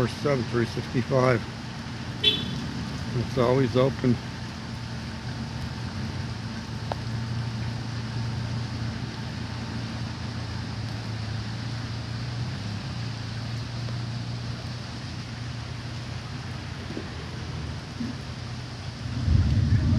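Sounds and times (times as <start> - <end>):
low mechanical hum: 0.5 - 19.9.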